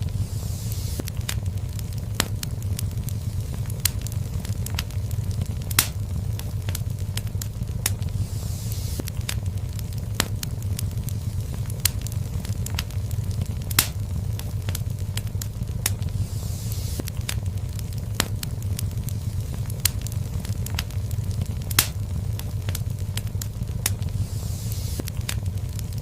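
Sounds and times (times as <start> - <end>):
fire crackles and pops: 0.0 - 26.0
fire hissing: 0.0 - 26.0
wood fire rumbling: 0.0 - 26.0.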